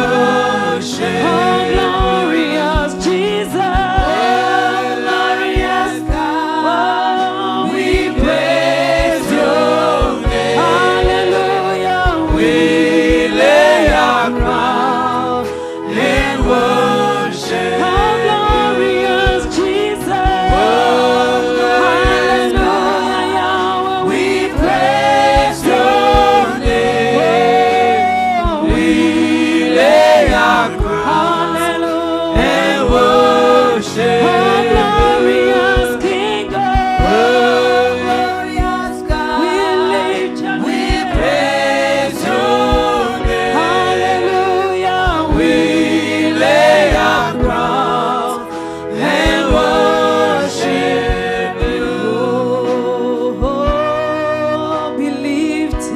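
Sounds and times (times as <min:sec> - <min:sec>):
group singing gospel song: 0:00.0 - 0:55.9
instrumental accompaniment: 0:00.0 - 0:55.9.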